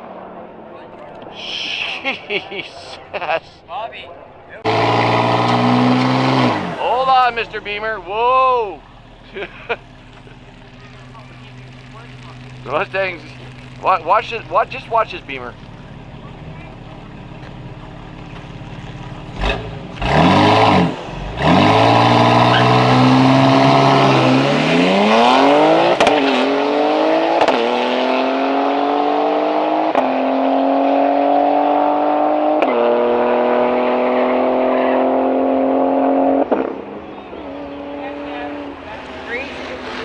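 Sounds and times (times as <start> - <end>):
car engine accelerating through gears: 4.6 - 14.0, 15.6 - 40.0.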